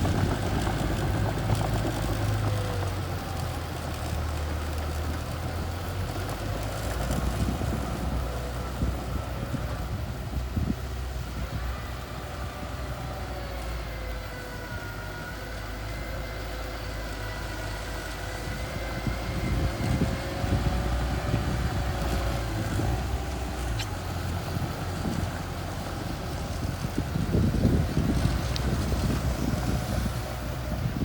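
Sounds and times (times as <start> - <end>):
bulldozer engine running: 0.0 - 31.0.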